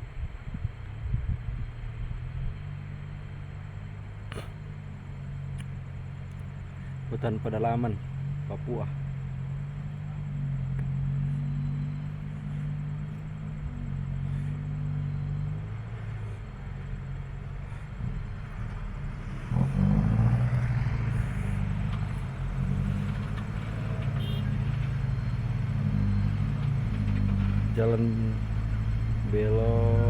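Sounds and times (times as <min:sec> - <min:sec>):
truck diesel engine pulling: 0:01.6 - 0:30.0.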